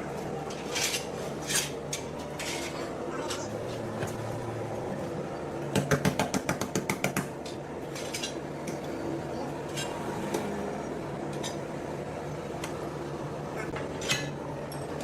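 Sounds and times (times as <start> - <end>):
low machine hum: 0.0 - 6.6, 7.2 - 15.0.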